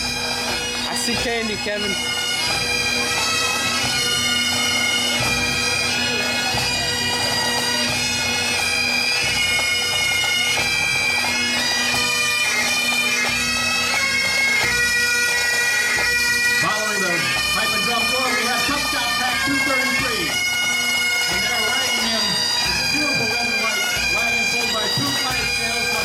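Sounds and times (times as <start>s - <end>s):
bagpipes playing a march: 0.0s - 26.0s
drums beating: 0.0s - 26.0s.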